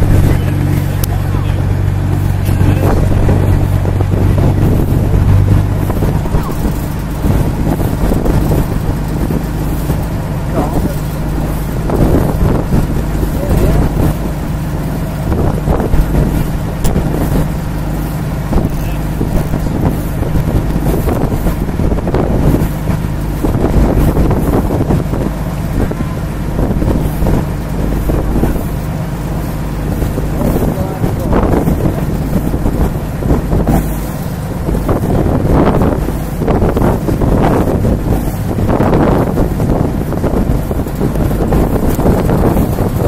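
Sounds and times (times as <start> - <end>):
boat engine humming: 0.0 - 43.0
wind rumbling on microphone: 0.0 - 43.0.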